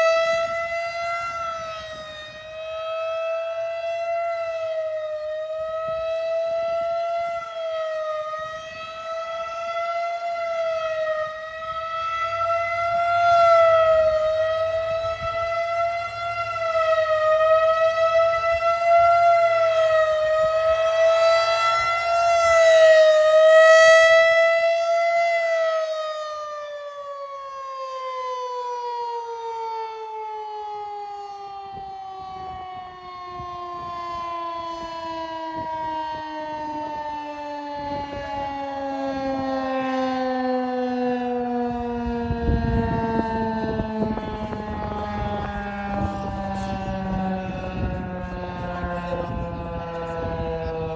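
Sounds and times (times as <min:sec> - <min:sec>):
wailing warning siren: 0:00.0 - 0:50.9.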